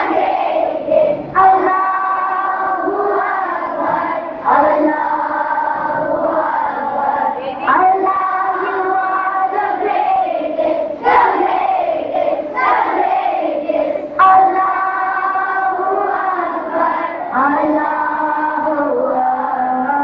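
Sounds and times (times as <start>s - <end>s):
children singing in unison: 0.0s - 20.0s.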